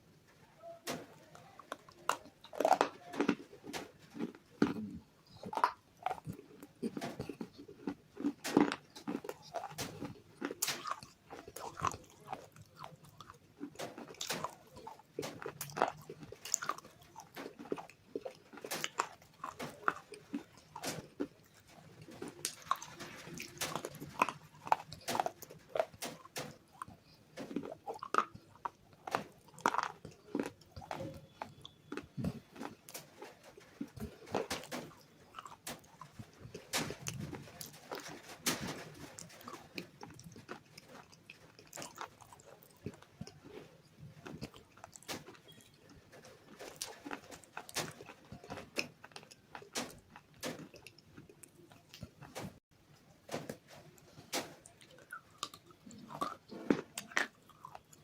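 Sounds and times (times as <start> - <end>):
soft chewing: 0.0 - 58.0.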